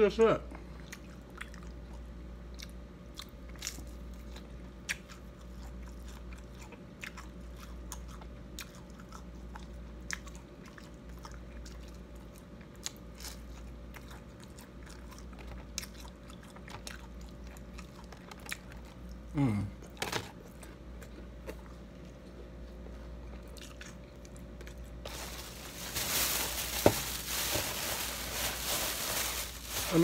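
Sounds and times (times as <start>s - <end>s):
steady low hum: 0.0s - 30.0s
crunchy chewing of fried fish: 0.6s - 30.0s.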